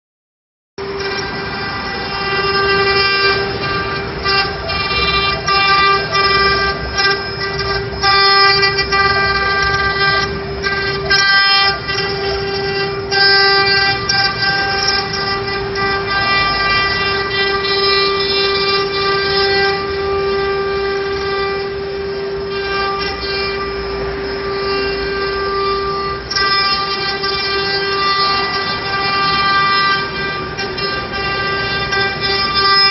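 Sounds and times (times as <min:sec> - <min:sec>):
router spindles whining: 0:00.8 - 0:32.9.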